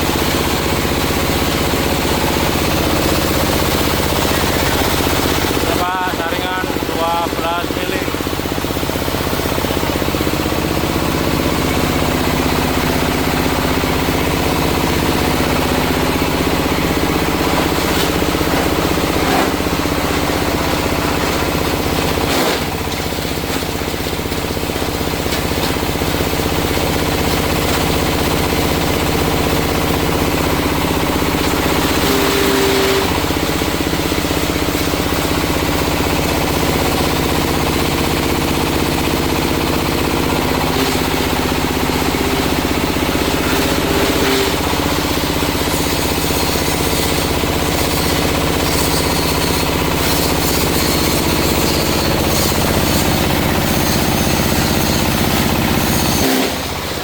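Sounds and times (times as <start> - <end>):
grinding machine running: 0.0 - 57.0.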